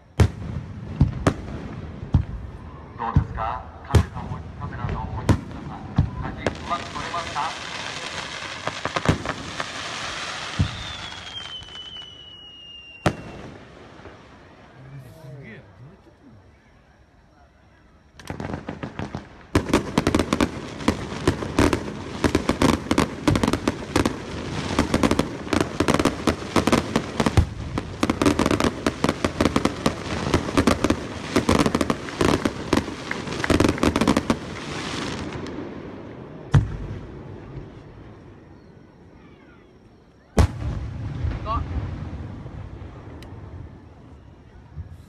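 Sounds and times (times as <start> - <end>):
fireworks crackling and banging: 0.0 - 15.4, 18.1 - 38.4, 40.3 - 45.0.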